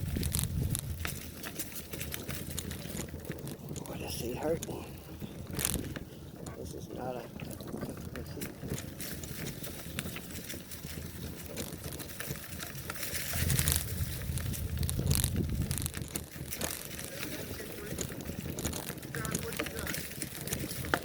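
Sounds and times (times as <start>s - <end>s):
bicycle tyre rumble: 0.0s - 21.0s
bike rattling clicks: 0.0s - 21.0s
wind buffeting microphone: 0.0s - 21.0s.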